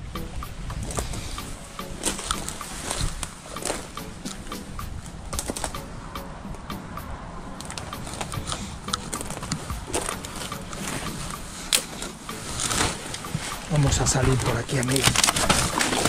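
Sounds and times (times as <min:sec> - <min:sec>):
twigs snapping: 0:00.8 - 0:04.7, 0:05.3 - 0:05.9, 0:07.6 - 0:16.0.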